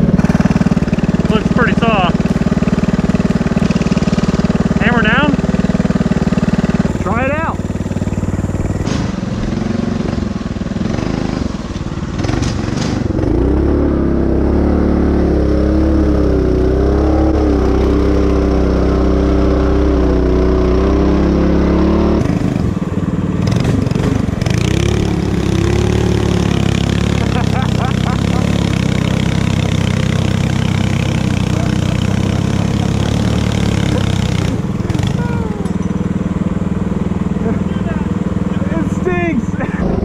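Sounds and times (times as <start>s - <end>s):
motorcycle engine under load: 0.0s - 40.0s.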